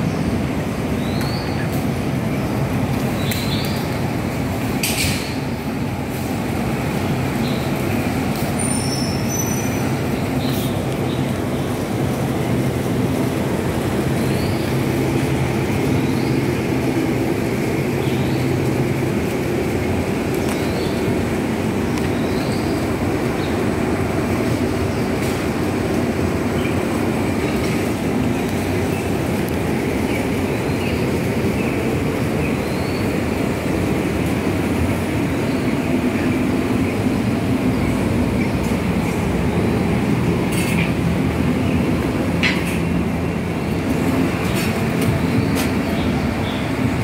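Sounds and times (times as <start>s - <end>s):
engine hum: 0.0s - 47.0s
low rumbling noise: 0.0s - 47.0s.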